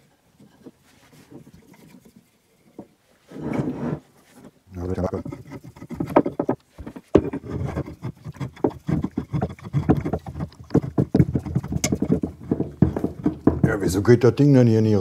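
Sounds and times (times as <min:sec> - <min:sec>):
wooden knocks and scraping: 0:00.4 - 0:14.2.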